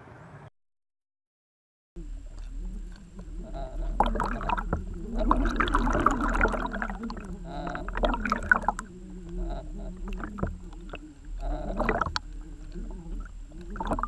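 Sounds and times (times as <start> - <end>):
underwater gurgling and sloshing: 2.0 - 14.0
wavering warbling tone: 2.0 - 14.0.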